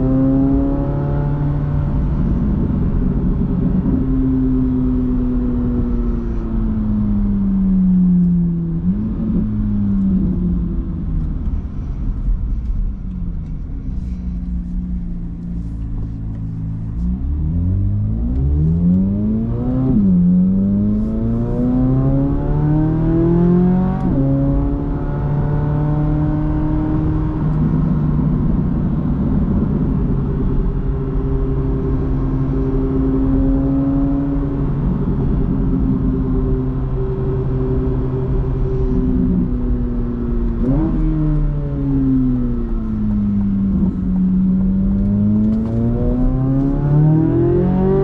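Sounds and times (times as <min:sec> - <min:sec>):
car engine accelerating through gears: 0:00.0 - 0:48.0.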